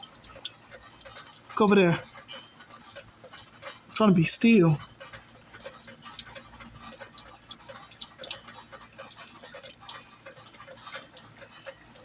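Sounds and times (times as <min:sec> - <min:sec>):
rainwater dripping: 0:00.0 - 0:12.0.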